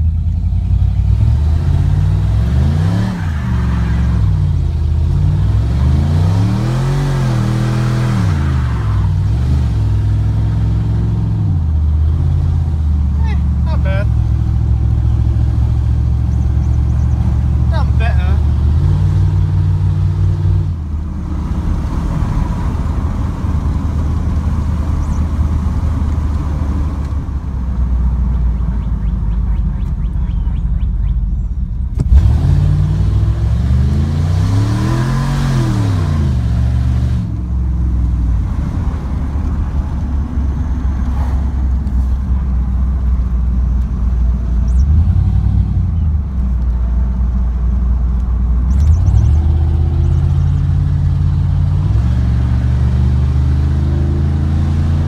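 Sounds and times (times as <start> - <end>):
truck engine from inside cab: 0.0 - 55.0.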